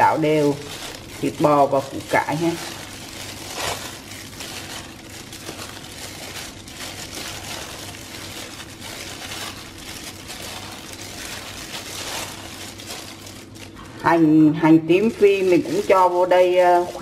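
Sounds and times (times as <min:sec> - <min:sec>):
wet squishing of food: 0:00.0 - 0:14.0
plastic gloves crinkling: 0:00.0 - 0:17.0.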